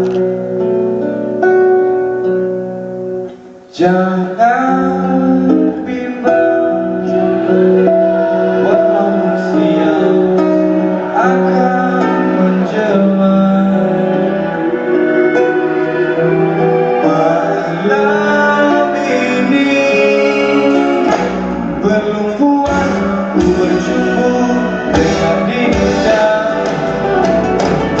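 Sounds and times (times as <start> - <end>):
strummed acoustic guitar: 0.0 - 28.0
person singing: 3.3 - 28.0.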